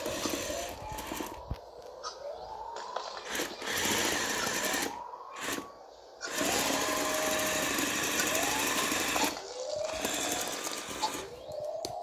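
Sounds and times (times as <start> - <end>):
gears and tracks rattling: 0.0 - 1.5, 2.9 - 11.5
electric motors whirring: 0.0 - 1.6, 2.9 - 12.0.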